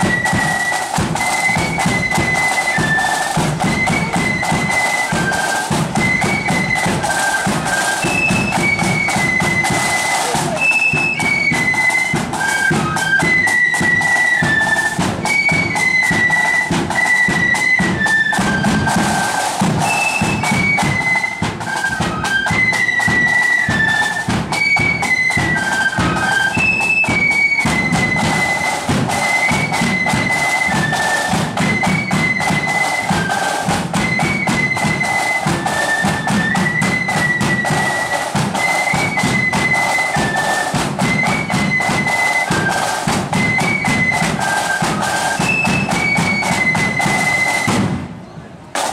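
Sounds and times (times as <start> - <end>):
flutes playing march tune: 0.0 - 48.9
side drum beats: 0.0 - 48.9.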